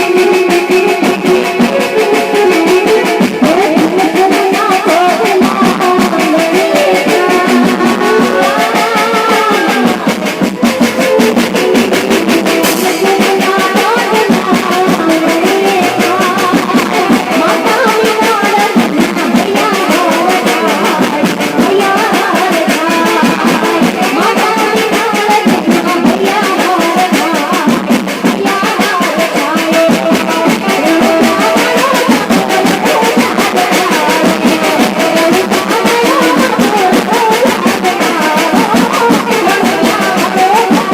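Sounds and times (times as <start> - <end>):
loud music over sound system: 0.0 - 40.9.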